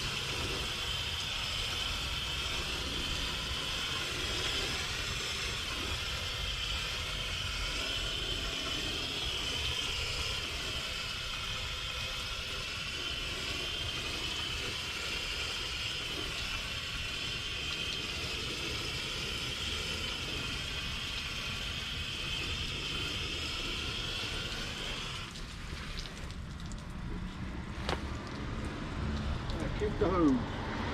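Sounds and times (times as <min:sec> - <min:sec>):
hose nozzle spraying water: 0:00.0 - 0:30.4.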